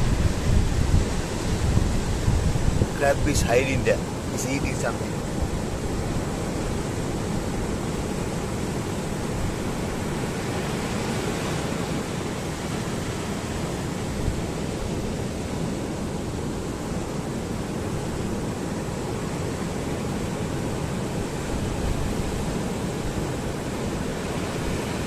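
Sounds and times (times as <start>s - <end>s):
ocean surf on a beach: 0.0s - 25.0s.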